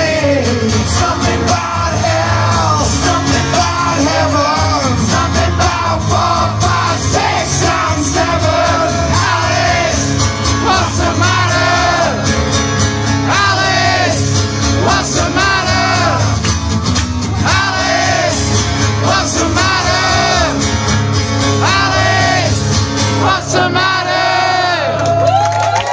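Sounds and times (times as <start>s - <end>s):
voices singing: 0.0s - 16.4s, 17.4s - 25.0s
acoustic guitars: 0.0s - 25.4s
crowd shouting: 1.3s - 12.5s, 13.2s - 16.4s, 17.4s - 20.8s, 21.6s - 22.6s, 23.2s - 25.8s.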